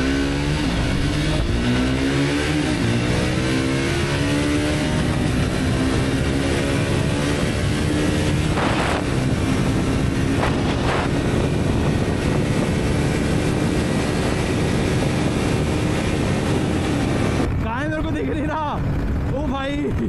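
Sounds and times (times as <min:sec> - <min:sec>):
motorcycle engine running: 0:00.0 - 0:20.0
wind rush over microphone: 0:00.0 - 0:20.0.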